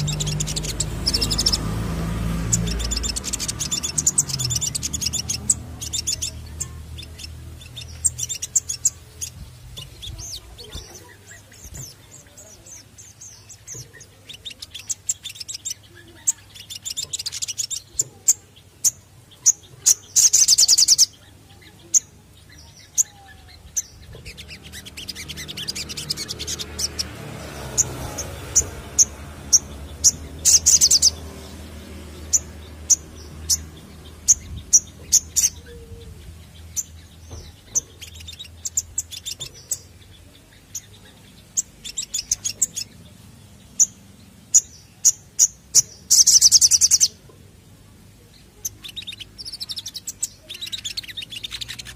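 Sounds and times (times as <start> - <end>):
loud dense bird trill: 0.0 - 47.2, 48.2 - 51.9
bird twittering and chirping: 0.0 - 51.9.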